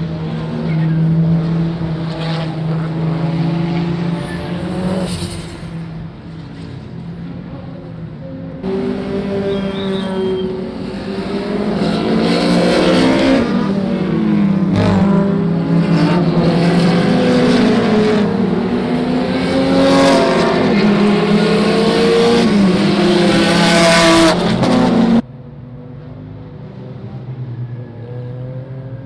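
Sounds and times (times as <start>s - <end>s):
racing car engines passing: 0.0s - 29.0s.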